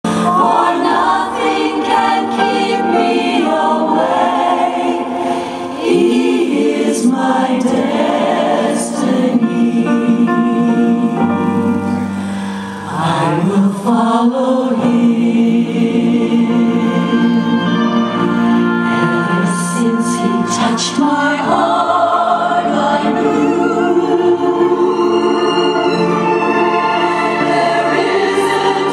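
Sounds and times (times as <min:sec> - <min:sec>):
backing music: 0:00.1 - 0:28.9
choir singing gospel: 0:00.1 - 0:28.9.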